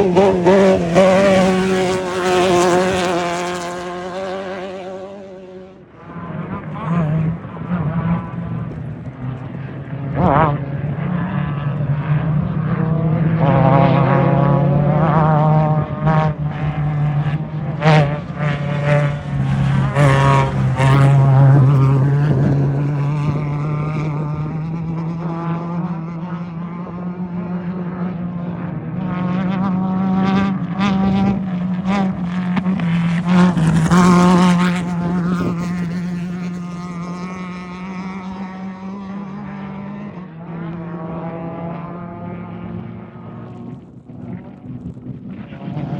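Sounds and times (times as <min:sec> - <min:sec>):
race vehicle engines revving: 0:00.0 - 0:45.9.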